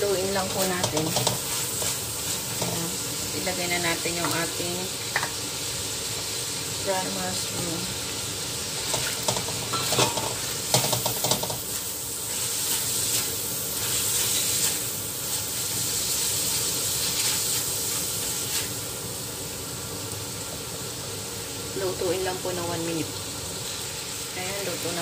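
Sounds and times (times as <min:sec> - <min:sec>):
chicken sizzling in a wok: 0:00.0 - 0:25.0.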